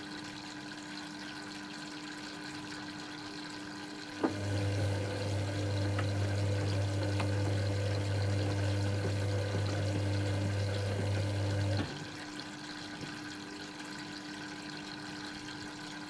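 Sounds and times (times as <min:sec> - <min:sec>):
water running through washing machine: 0:00.0 - 0:16.0.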